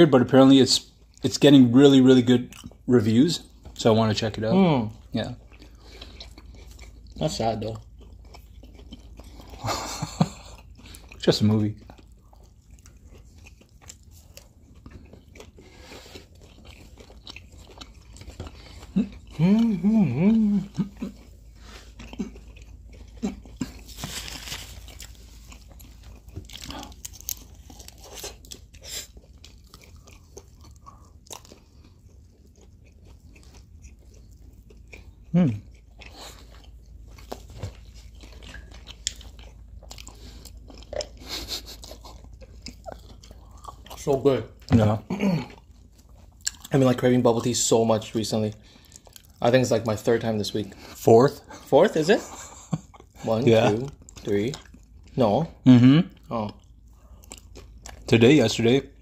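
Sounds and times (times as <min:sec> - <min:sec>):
chewing with soft crunches: 0:00.0 - 0:59.0.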